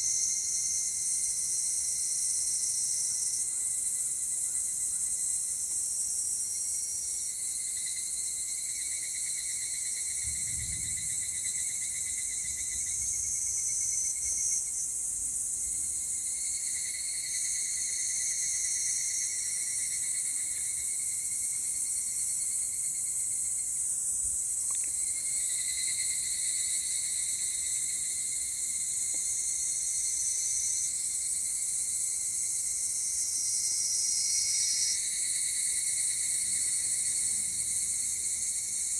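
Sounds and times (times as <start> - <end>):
cicadas buzzing in chorus: 0.0 - 38.9
pulsing pitched cicada call: 0.0 - 38.9.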